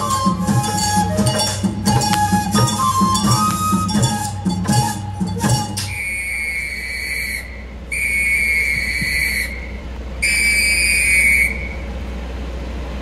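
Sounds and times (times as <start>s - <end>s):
long high whistle blasts: 0.0s - 12.0s.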